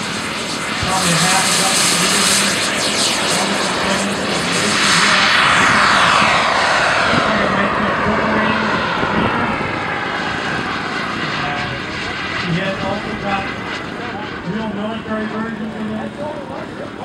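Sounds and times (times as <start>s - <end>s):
model jet roaring: 0.0s - 17.0s.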